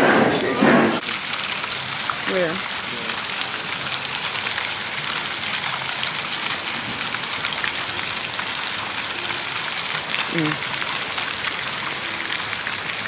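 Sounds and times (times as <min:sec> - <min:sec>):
rain falling: 0:00.3 - 0:13.0.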